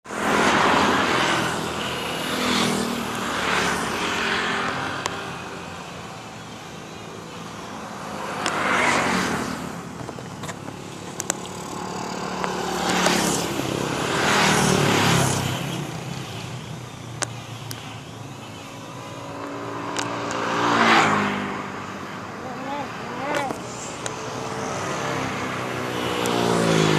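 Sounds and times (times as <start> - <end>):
buses and road traffic passing: 0.0 - 26.9.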